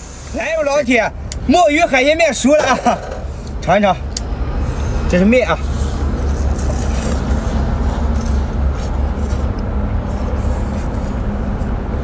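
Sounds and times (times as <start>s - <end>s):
low rumble with faint hum: 0.0s - 12.0s.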